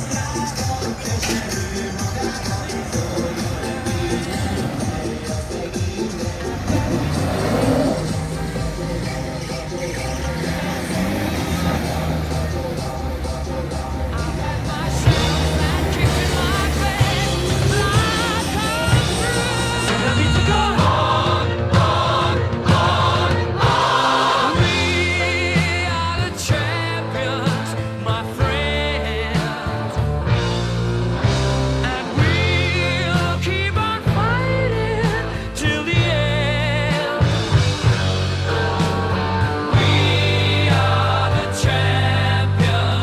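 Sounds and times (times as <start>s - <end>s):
rock song: 0.0s - 43.0s.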